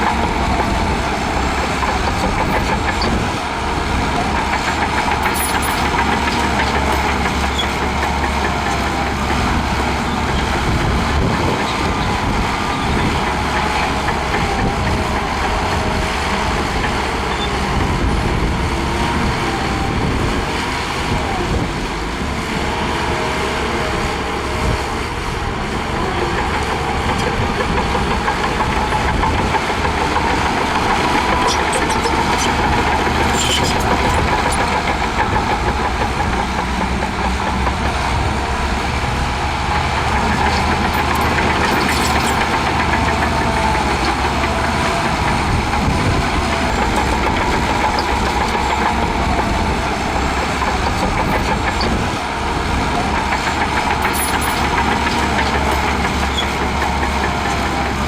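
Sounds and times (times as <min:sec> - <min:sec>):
heavy diesel machinery engine drone: 0:00.0 - 0:58.0.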